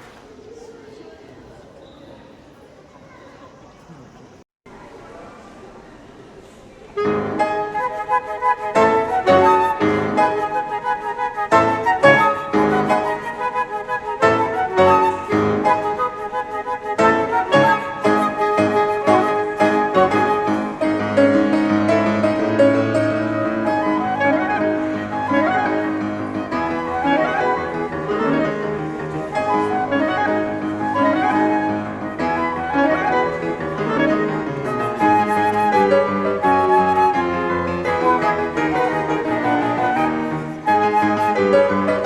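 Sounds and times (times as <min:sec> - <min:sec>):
flutes and clarinet melody: 0:07.0 - 0:42.0
piano accompaniment: 0:07.0 - 0:42.0.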